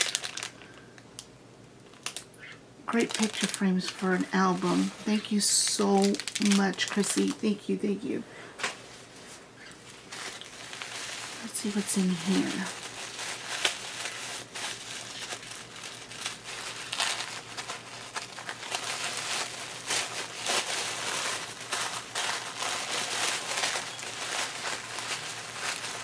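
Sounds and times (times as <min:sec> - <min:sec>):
gift wrapping crinkling: 0:00.0 - 0:01.1, 0:01.8 - 0:02.3, 0:02.9 - 0:26.0.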